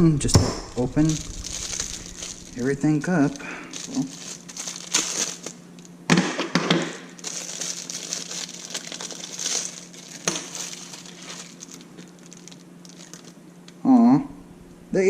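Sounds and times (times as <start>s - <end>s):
plastic packaging crinkling: 0.7s - 6.0s, 6.8s - 13.7s.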